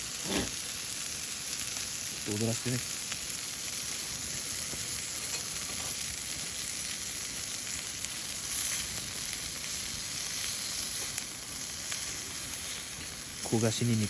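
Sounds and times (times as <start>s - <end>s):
meat sizzling on a griddle: 0.0s - 14.0s.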